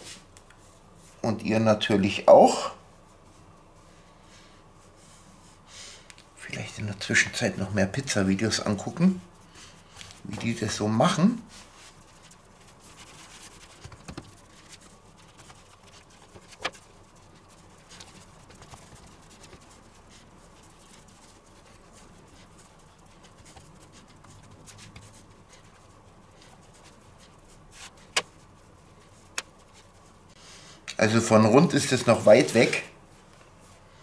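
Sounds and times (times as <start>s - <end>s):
hands rubbing and patting dough: 2.5s - 33.9s.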